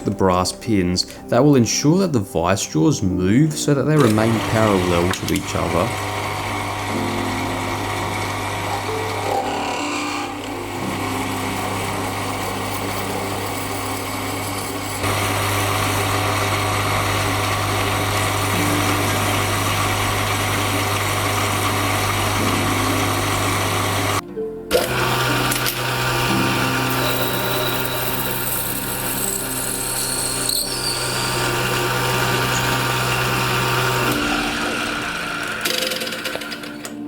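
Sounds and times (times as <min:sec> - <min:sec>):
metal lathe motor humming: 0:04.0 - 0:37.0.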